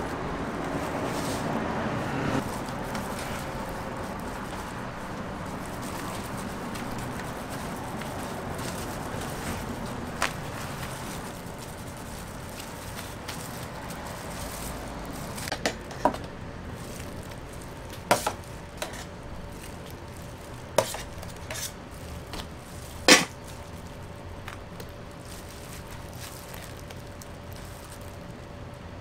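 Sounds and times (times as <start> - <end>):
faint steady hum: 2.4 - 29.0.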